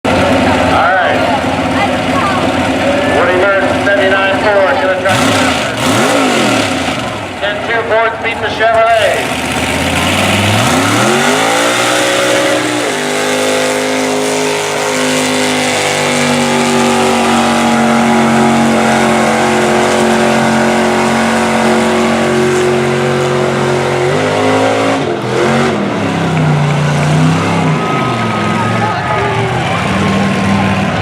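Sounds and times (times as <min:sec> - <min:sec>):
truck engine revving hard: 0:00.1 - 0:31.0.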